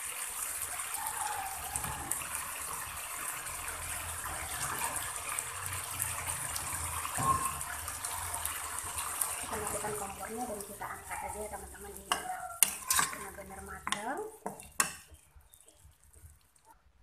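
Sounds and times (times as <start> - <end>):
sauce bubbling and sizzling in a wok: 0.0 - 17.0.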